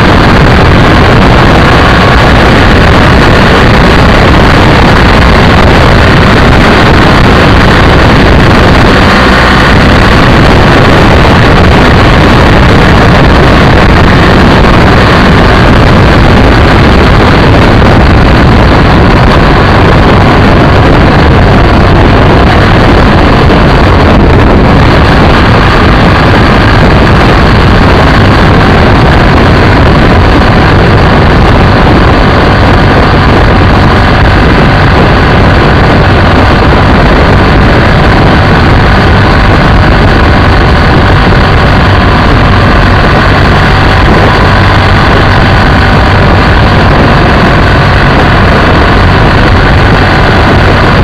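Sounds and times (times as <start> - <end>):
motorcycle engine running: 0.0 - 51.0
wind rush on microphone: 0.0 - 51.0.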